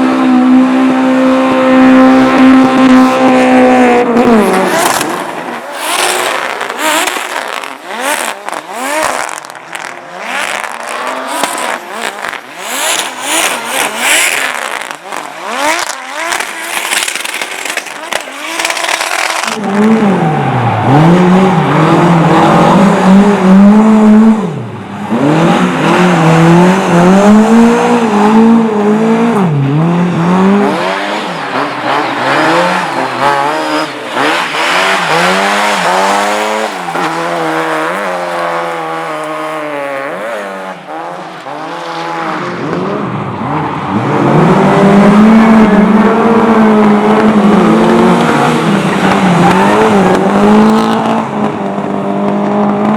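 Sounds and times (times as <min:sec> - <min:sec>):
race car engine revving: 0:00.0 - 0:52.9.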